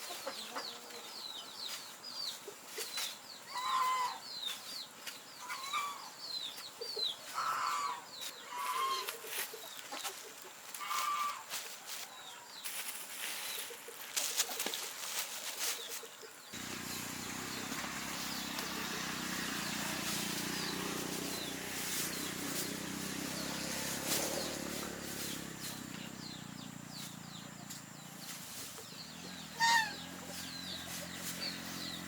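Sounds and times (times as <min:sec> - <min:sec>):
chickens clucking: 0:00.0 - 0:04.7, 0:05.4 - 0:11.5, 0:13.2 - 0:32.0.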